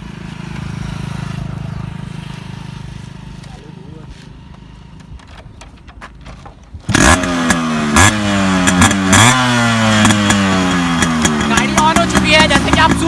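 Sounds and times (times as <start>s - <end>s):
motorcycle engine starting and revving: 0.0s - 13.0s.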